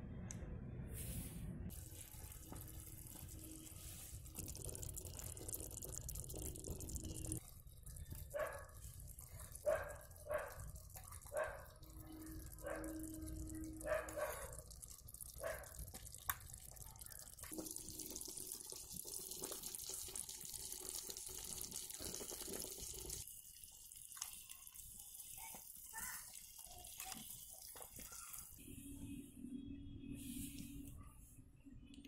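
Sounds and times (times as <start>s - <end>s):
broth simmering and bubbling: 1.7s - 32.0s.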